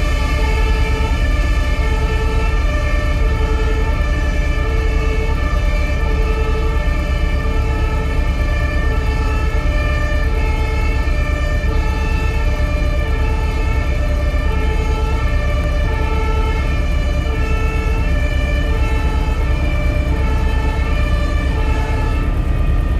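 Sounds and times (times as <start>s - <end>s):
low rumble: 0.0s - 22.9s
two-tone emergency siren: 0.0s - 22.9s.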